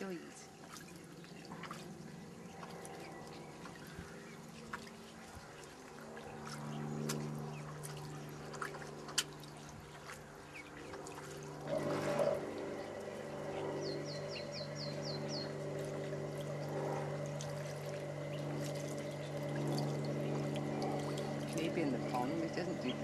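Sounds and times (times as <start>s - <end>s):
ducklings splashing in water: 0.0s - 23.0s
steady low hum: 0.0s - 23.0s.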